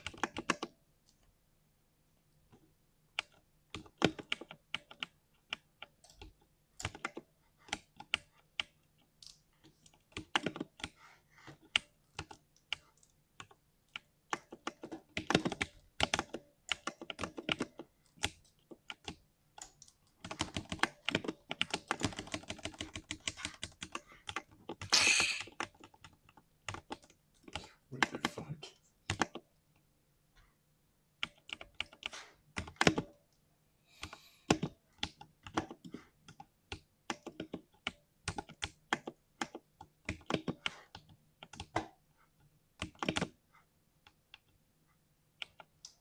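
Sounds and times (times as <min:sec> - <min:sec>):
mechanical keyboard typing: 0:00.0 - 0:00.8, 0:03.1 - 0:28.3, 0:29.1 - 0:29.5, 0:31.2 - 0:33.2, 0:34.0 - 0:42.0, 0:42.8 - 0:43.4.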